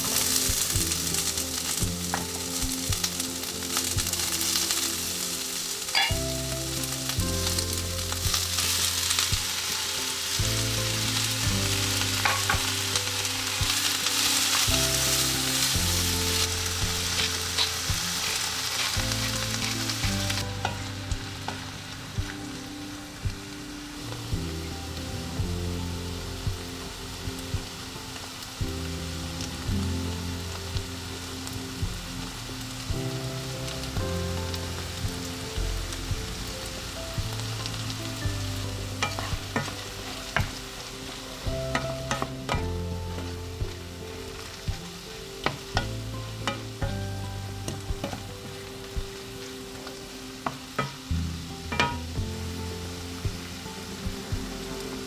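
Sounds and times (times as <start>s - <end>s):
food sizzling in a frying pan: 0.0s - 55.0s.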